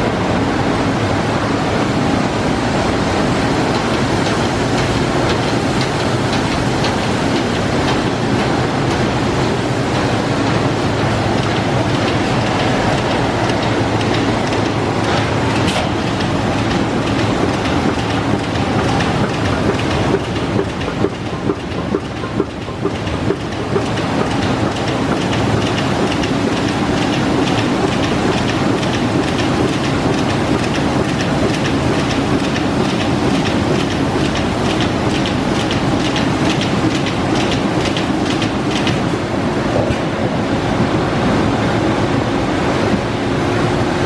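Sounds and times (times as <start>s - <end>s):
printing press clattering: 0.0s - 44.0s.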